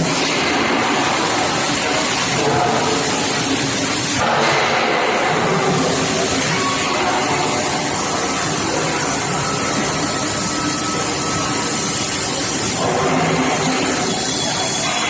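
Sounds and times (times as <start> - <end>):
industrial machinery hiss: 0.0 - 15.0.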